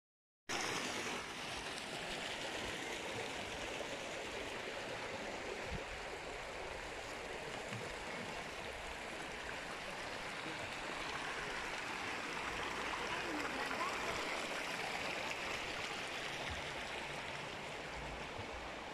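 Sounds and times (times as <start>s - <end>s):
water gushing from pipes: 0.5s - 4.9s, 7.5s - 18.7s.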